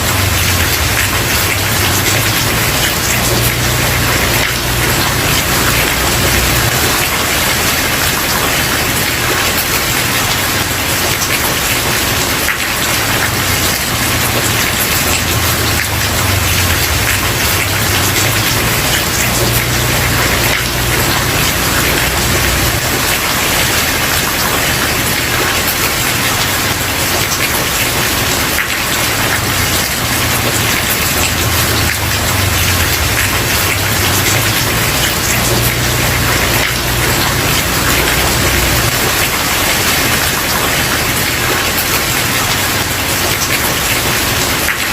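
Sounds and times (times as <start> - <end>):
heavy rain on wooden porch: 0.0 - 44.9.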